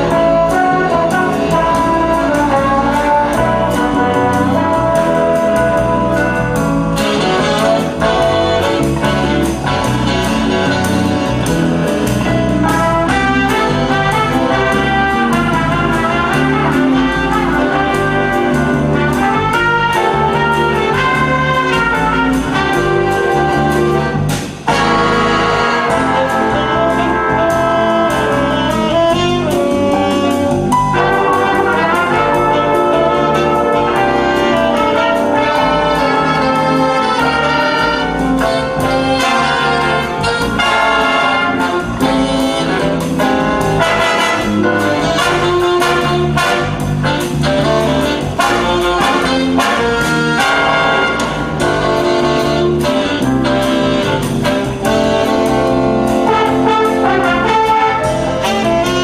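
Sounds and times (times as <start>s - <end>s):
big band playing jazz: 0.0s - 59.0s.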